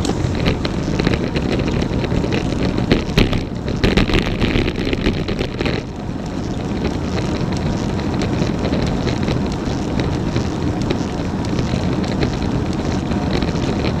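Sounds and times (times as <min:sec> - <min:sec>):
road and tyre rumble: 0:00.0 - 0:14.0
wind buffeting microphone: 0:00.0 - 0:14.0.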